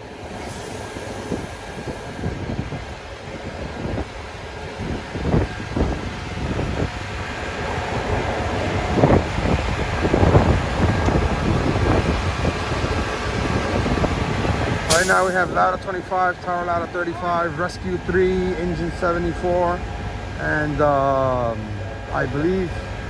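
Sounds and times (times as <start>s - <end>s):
wind buffeting microphone: 0.0s - 22.1s
street traffic: 0.0s - 23.0s.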